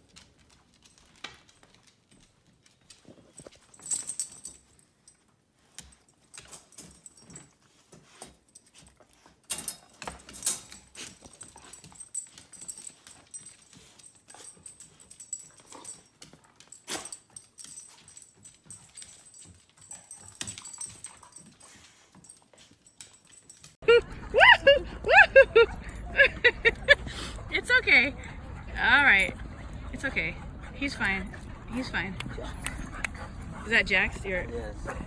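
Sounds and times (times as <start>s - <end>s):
puppy clicks and scuffs: 0.0s - 24.3s, 25.7s - 35.0s.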